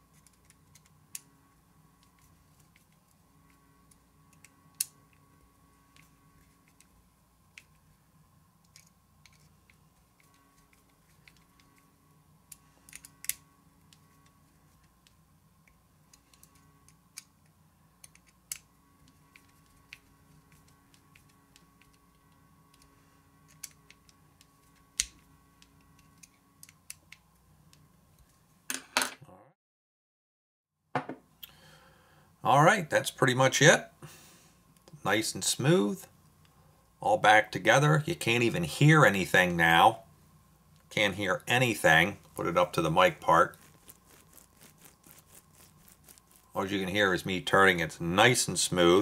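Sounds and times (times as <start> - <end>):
faint steady hum: 0.0 - 29.5, 31.0 - 49.0.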